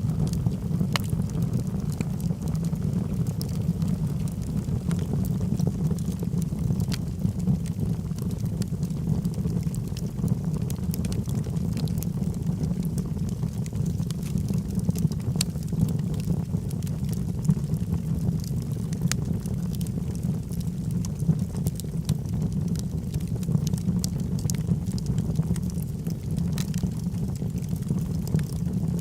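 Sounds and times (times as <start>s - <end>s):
fire crackling and popping: 0.0s - 29.0s
fire rumbling: 0.0s - 29.0s.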